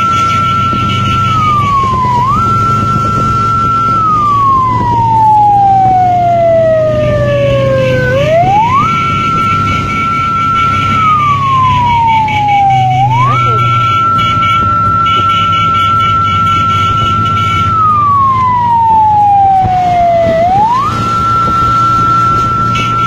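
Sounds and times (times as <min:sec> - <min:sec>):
low rumble: 0:00.0 - 0:23.0
wailing siren tone: 0:00.0 - 0:23.0.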